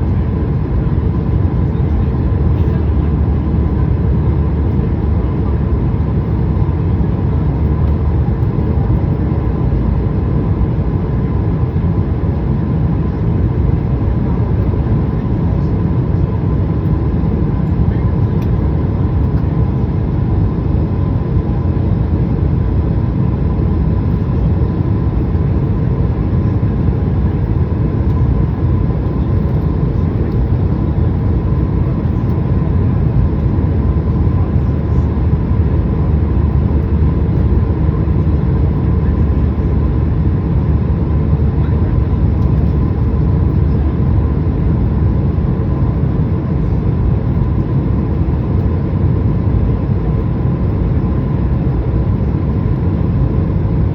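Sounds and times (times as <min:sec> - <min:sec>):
faint steady whine: 0:00.0 - 0:53.9
jet airliner cabin rumble: 0:00.0 - 0:53.9.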